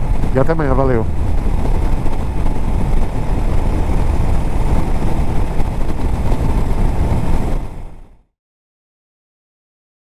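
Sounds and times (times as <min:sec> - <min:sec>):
motorcycle engine cruising: 0:00.0 - 0:08.1
wind noise: 0:00.0 - 0:08.3.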